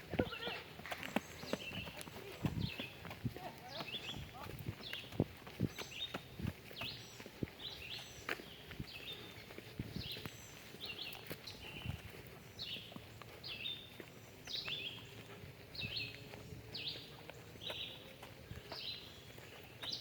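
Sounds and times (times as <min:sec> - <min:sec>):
footsteps on path: 0:00.0 - 0:20.0.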